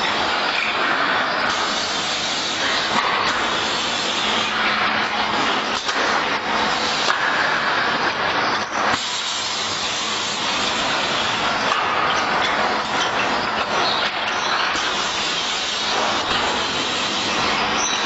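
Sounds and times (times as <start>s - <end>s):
factory assembly line running: 0.0s - 18.0s.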